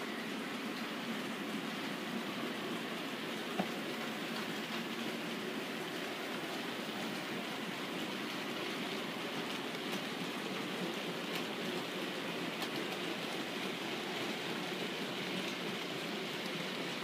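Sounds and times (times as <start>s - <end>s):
model train wheels rolling: 2.3s - 17.0s.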